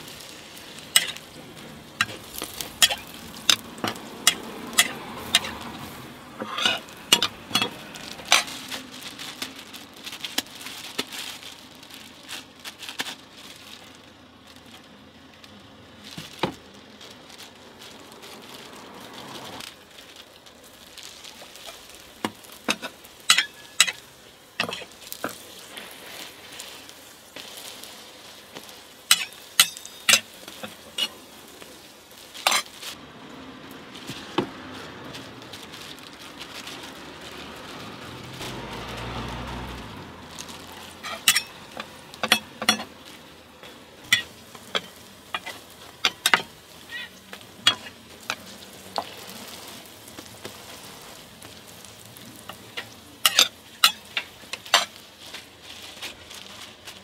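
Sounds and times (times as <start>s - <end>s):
pancakes sizzling in oil: 0.0s - 57.0s.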